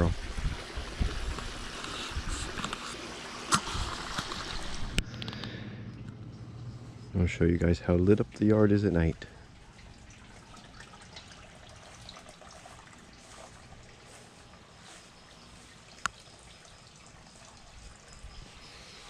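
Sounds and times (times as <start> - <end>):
water trickling: 0.0 - 5.1, 5.8 - 19.0.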